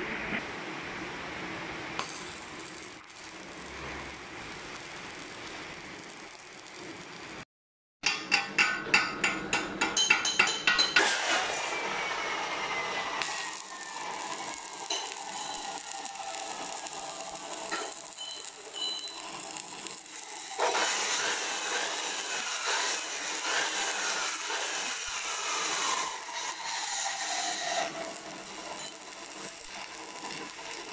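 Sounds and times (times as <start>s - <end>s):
arc welding crackle and hiss: 1.4s - 7.5s, 10.3s - 30.9s.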